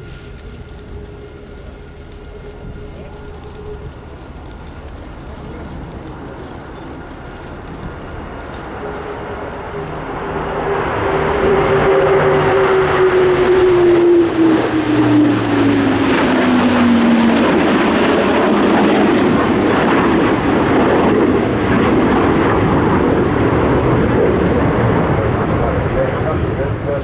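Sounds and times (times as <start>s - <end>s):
military aircraft flying past: 0.0s - 27.0s.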